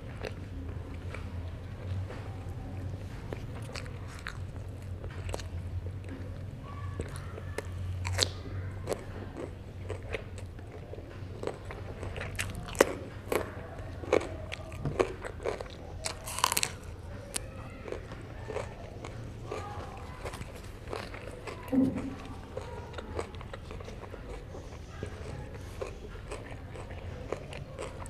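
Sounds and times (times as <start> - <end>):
wet chewing and biting: 0.0 - 28.0.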